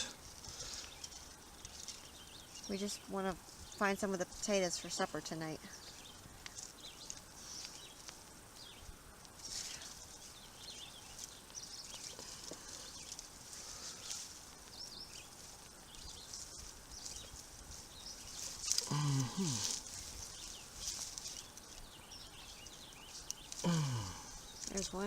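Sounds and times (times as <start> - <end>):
soft rustling: 0.0 - 25.0.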